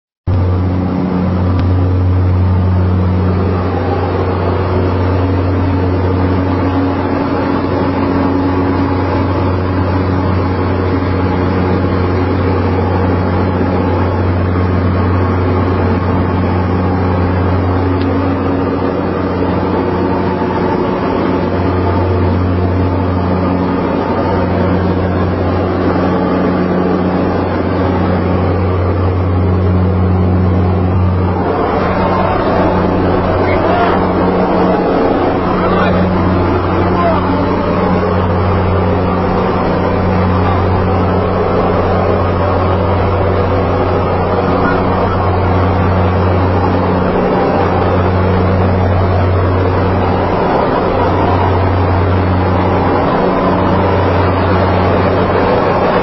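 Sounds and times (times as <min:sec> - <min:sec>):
low engine drone: 0:00.3 - 0:56.0.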